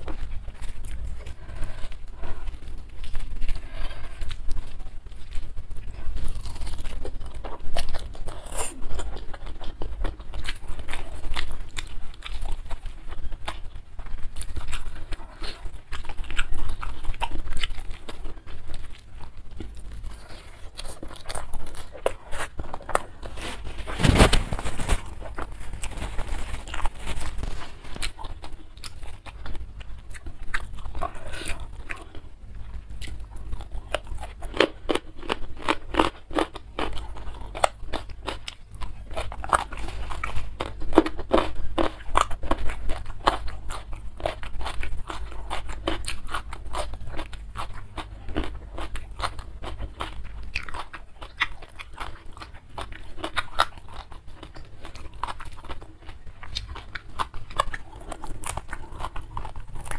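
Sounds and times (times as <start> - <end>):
close chewing and crunching: 0.0 - 59.9.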